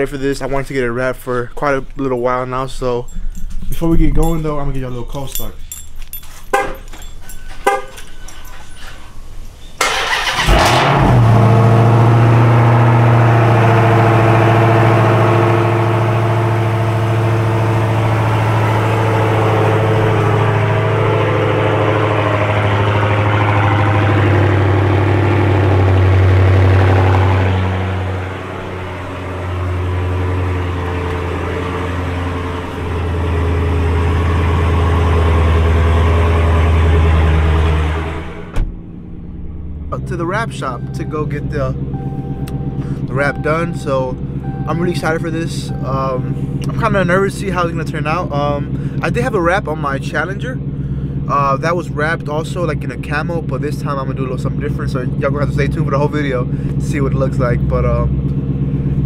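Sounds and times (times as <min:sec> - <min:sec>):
car engine starting: 0:06.1 - 0:59.0
loud engine idle: 0:09.9 - 0:59.0.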